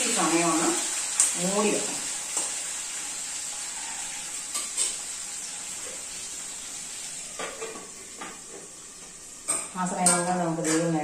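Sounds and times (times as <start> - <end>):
chicken sizzling in oil: 0.0 - 10.6.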